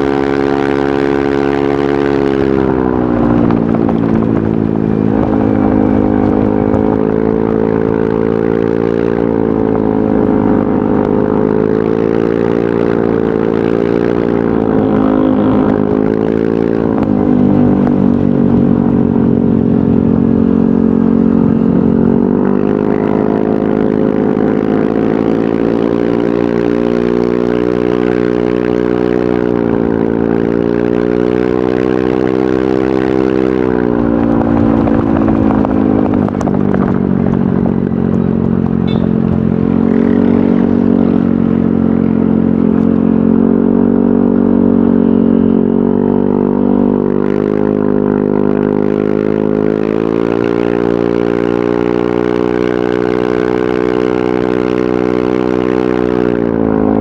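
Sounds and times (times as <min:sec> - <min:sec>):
scooter engine exhaust note: 0:00.0 - 0:57.0.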